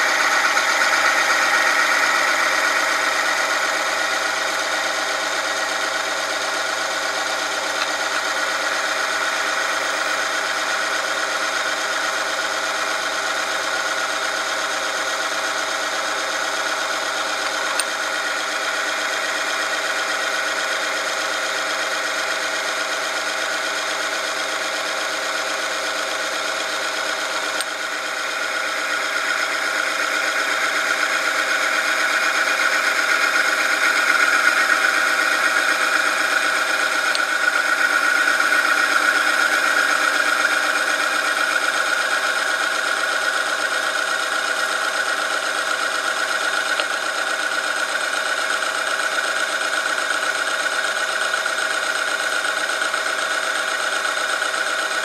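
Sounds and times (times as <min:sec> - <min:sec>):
machine grinding and whining: 0:00.0 - 0:24.8, 0:25.4 - 0:55.0.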